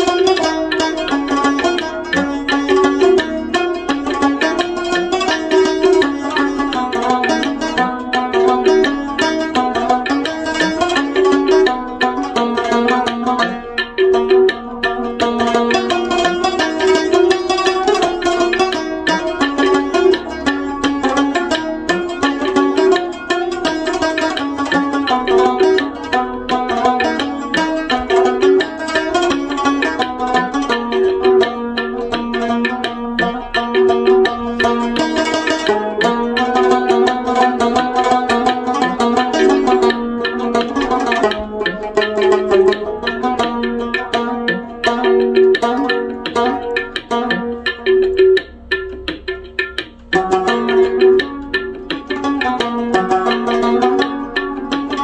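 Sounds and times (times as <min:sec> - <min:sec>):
instrumental music with percussion: 0:00.0 - 0:55.0.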